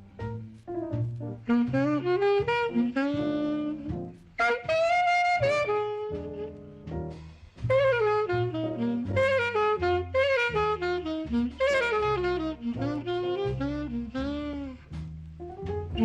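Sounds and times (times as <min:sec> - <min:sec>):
jazz saxophone soloing: 0:00.0 - 0:16.0
walking bass: 0:00.0 - 0:16.0.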